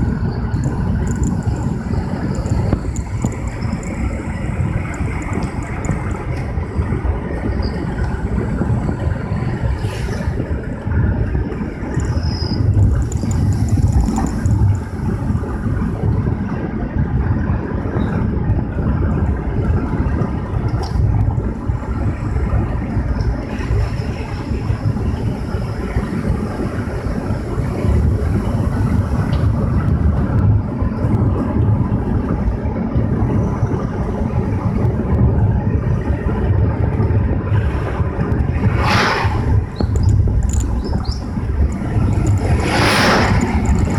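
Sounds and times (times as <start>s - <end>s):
vehicle engine and tyre rumble: 0.0s - 43.9s.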